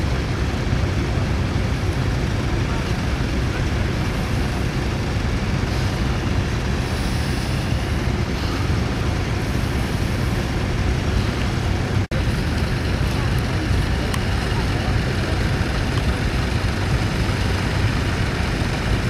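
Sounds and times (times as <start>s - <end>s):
tractor engines running: 0.0s - 19.0s
wind rumbling on microphone: 0.0s - 19.0s.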